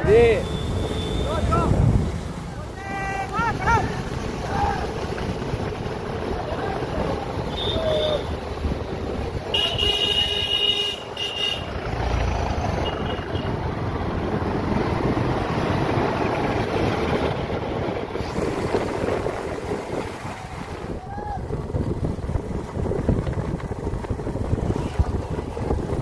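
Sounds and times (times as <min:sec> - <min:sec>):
motorcycle engines running: 0:00.0 - 0:26.0.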